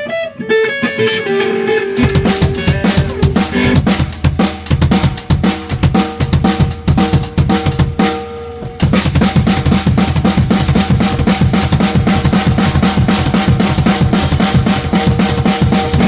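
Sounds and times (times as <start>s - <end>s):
band music with drum kit: 0.0s - 16.0s.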